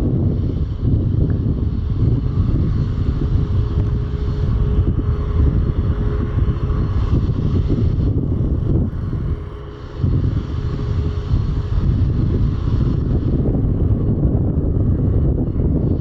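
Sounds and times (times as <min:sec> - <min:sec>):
jet engines running: 0:00.0 - 0:16.0
wind buffeting microphone: 0:00.0 - 0:16.0.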